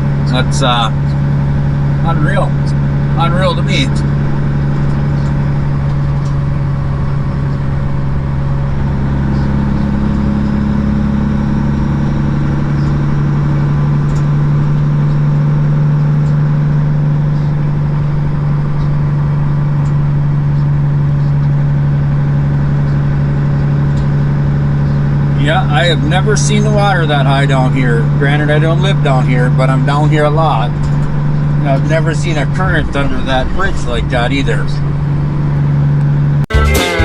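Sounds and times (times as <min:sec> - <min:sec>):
truck diesel engine droning: 0:00.0 - 0:37.0.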